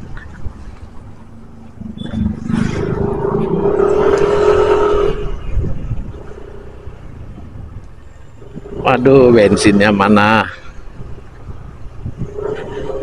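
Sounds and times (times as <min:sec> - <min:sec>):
road noise: 0:00.0 - 0:13.0
vehicle engine: 0:00.9 - 0:13.0.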